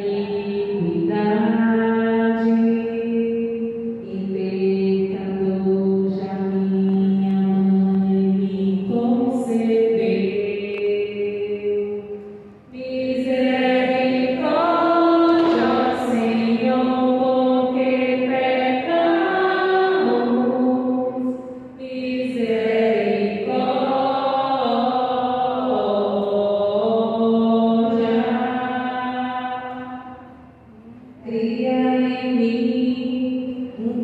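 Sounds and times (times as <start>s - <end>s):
woman chanting: 0.0s - 30.3s, 31.2s - 34.0s.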